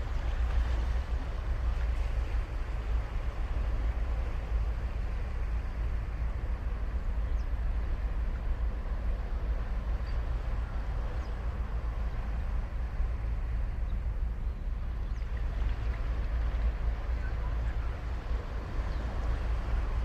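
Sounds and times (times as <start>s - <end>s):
ocean waves on beach: 0.0s - 20.0s.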